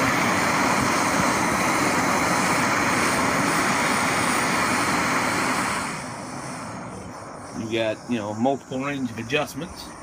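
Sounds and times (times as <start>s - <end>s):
gas stove burner hissing: 0.0s - 10.0s.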